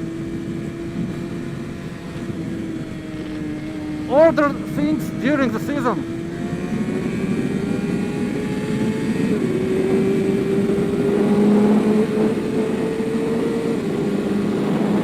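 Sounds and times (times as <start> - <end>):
motorcycle engine at road speed: 0.0 - 15.0.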